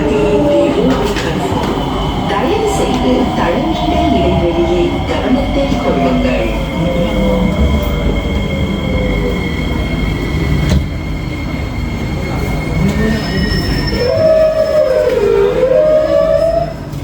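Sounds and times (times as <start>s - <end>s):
train braking whine: 0.0s - 16.9s
wheels rumbling on rail: 0.0s - 17.0s.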